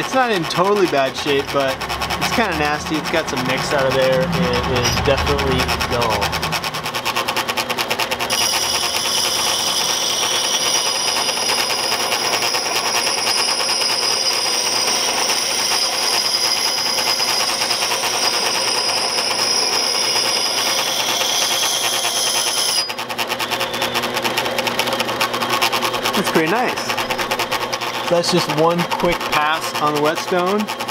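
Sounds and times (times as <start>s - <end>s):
motor running with fast rattle: 0.0s - 30.9s.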